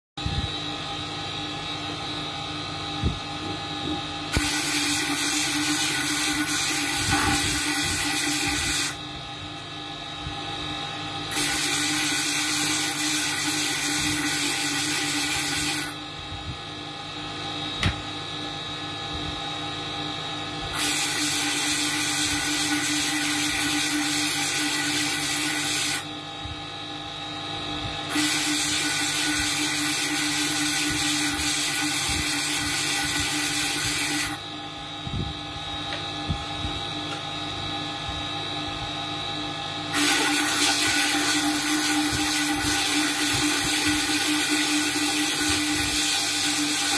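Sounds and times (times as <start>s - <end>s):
electric spindle humming: 0.2s - 46.9s.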